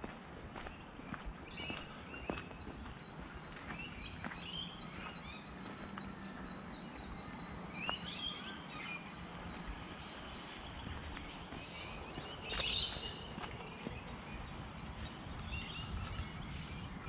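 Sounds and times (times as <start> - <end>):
footsteps on gravel: 0.0 - 7.2, 8.8 - 16.2
birds chirping and trilling: 0.6 - 17.0.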